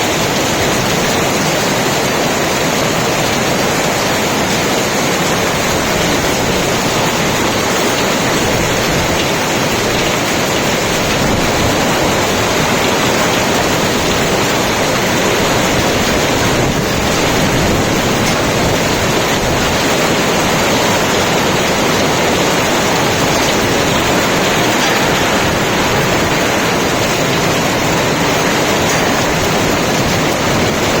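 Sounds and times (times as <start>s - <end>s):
hail and heavy rain falling: 0.0s - 31.0s.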